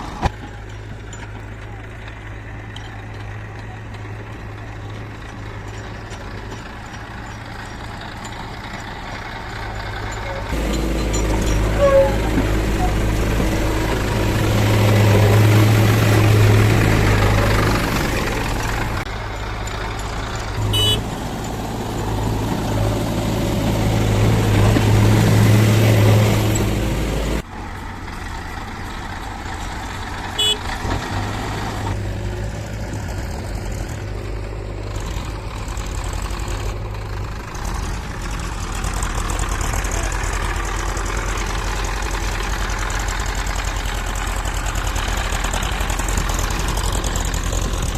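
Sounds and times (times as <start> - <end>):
diesel engine working: 0.0 - 47.9.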